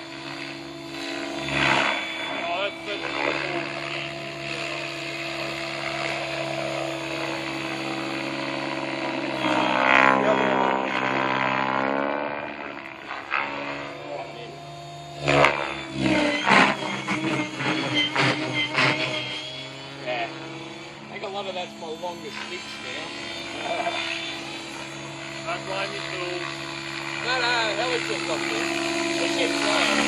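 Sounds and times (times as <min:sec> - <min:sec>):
rc helicopter buzzing whine: 0:00.0 - 0:30.0.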